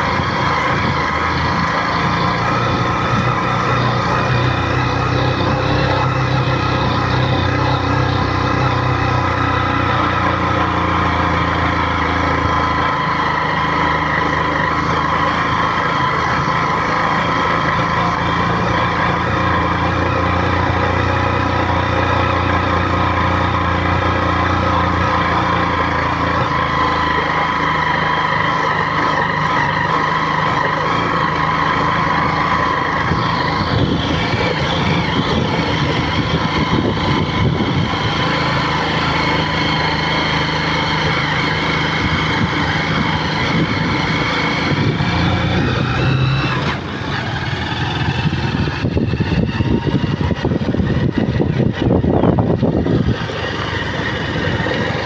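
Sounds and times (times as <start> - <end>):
vehicle engine under load: 0.0 - 55.0.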